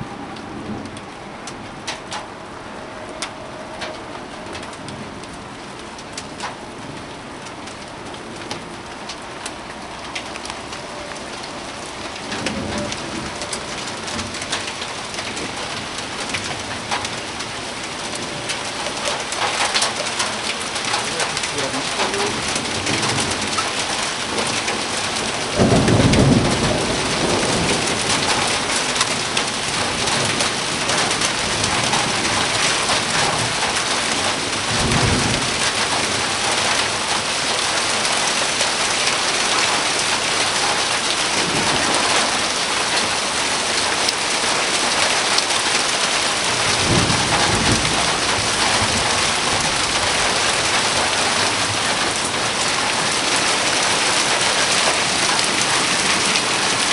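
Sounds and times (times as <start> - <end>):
heavy rain falling: 0.0 - 56.9
thunder rumbling: 0.0 - 56.9.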